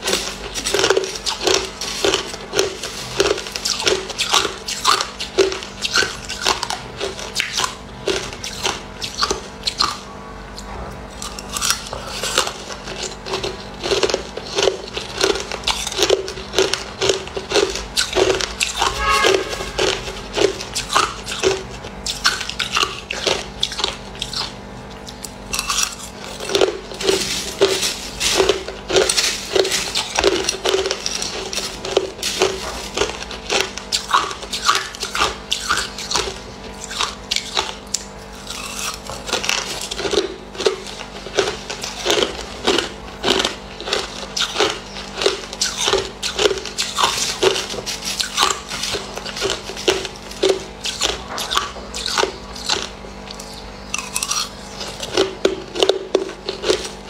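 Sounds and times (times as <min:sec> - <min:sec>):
ice crunching while chewed: 0:00.0 - 0:57.0.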